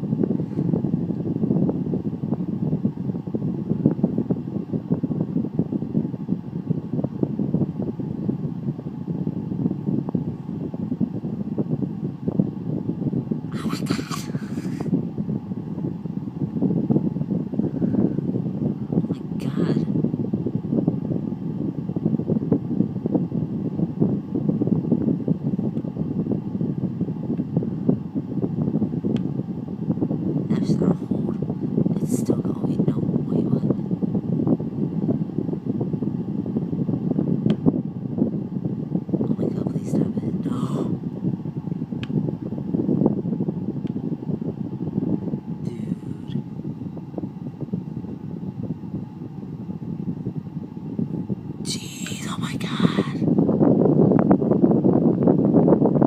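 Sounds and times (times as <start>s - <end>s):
air conditioning blower: 0.0s - 56.0s.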